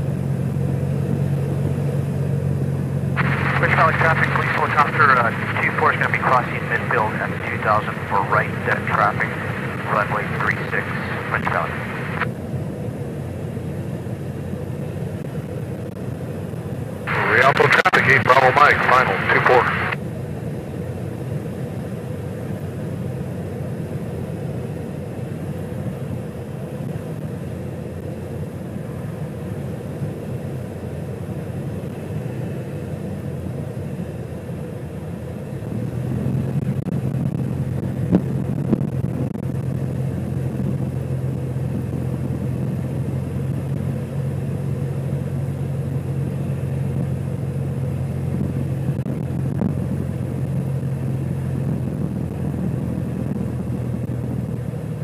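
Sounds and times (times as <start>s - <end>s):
light aircraft engine droning: 0.0s - 55.0s
steady low hum: 0.0s - 55.0s.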